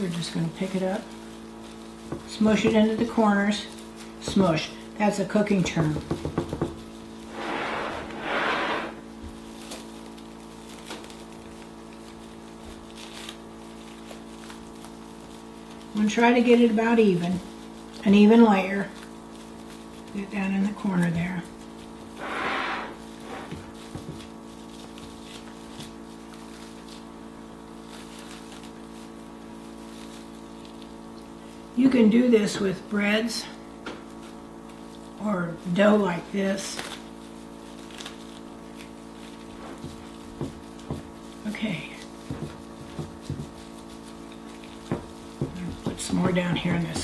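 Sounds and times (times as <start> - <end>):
plastic wrap crinkling: 0.0 - 5.5, 6.2 - 32.9, 34.0 - 47.0
steady electrical hum: 0.0 - 47.0.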